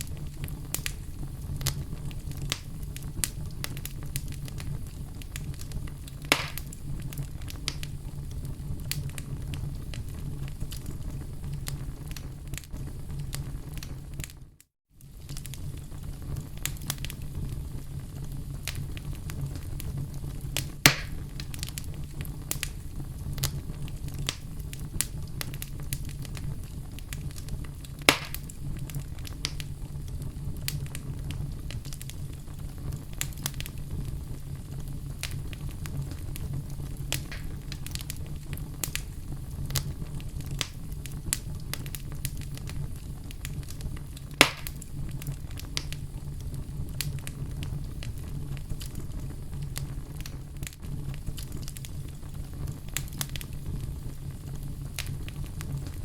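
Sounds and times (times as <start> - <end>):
campfire crackling: 0.0 - 56.0
loud fire pops: 0.0 - 56.0
low fire rumble: 0.0 - 56.0.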